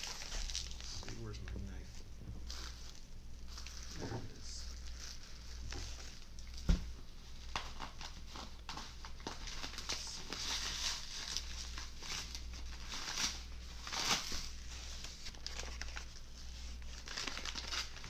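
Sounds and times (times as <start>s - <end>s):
plastic wrapping crinkling and tearing: 0.0s - 18.0s.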